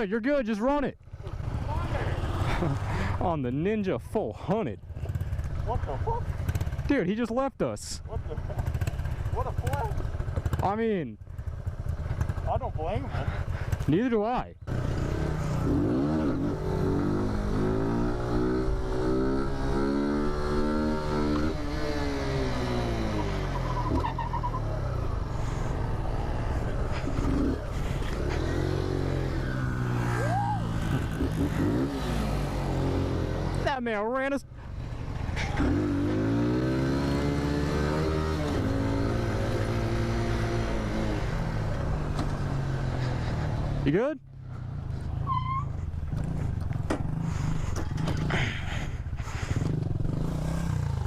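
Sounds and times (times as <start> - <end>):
motorcycle engine under throttle: 4.8 - 7.0, 8.0 - 14.0, 14.6 - 33.8, 34.7 - 43.8, 44.6 - 51.0.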